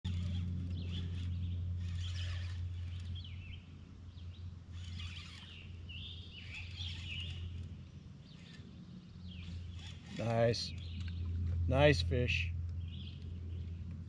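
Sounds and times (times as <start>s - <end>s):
steady low hum: 0.0s - 14.0s
birds chirping and trilling: 0.1s - 11.5s, 12.8s - 13.9s.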